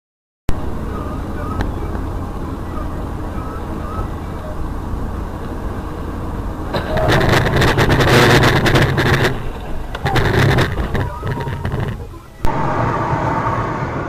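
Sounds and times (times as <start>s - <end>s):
car road and engine noise: 0.5s - 14.0s
crackling rush: 0.5s - 14.0s.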